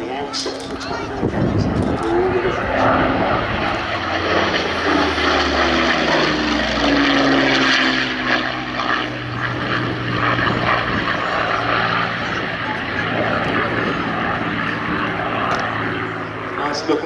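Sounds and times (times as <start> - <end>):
propeller aircraft flying past: 0.0 - 17.0.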